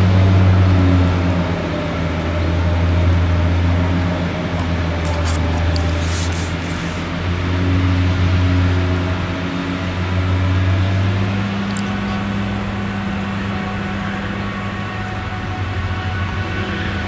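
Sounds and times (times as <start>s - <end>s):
deep engine drone: 0.0s - 17.0s.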